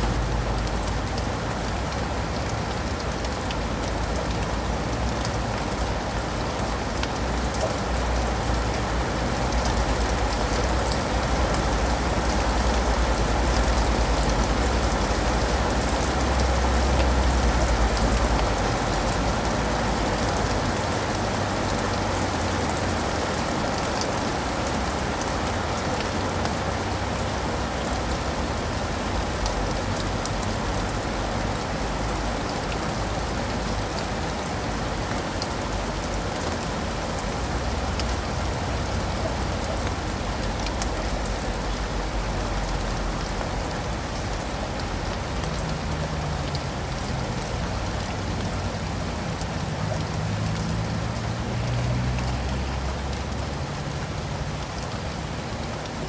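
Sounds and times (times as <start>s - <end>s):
rain on leaves and pavement: 0.0s - 56.0s
raindrops ticking: 0.0s - 56.0s.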